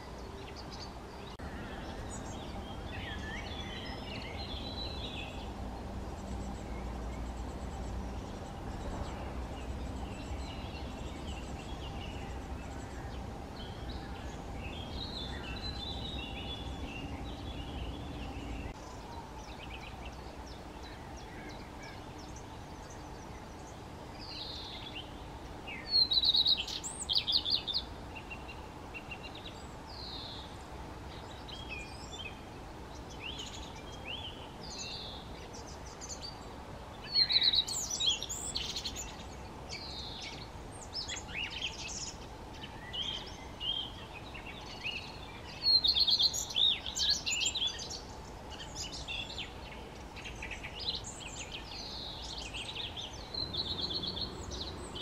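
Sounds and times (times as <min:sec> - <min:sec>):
redstart singing: 0:00.0 - 0:55.0.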